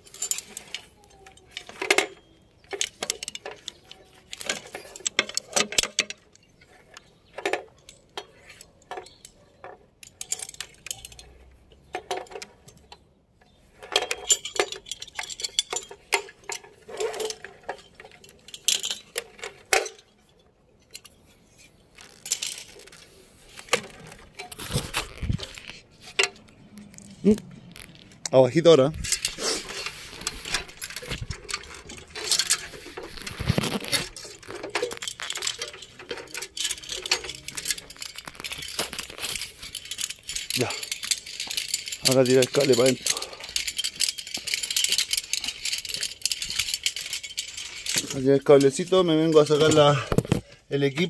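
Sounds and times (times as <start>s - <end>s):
metal hardware clinking and rattling: 0.0s - 13.0s, 13.7s - 51.0s.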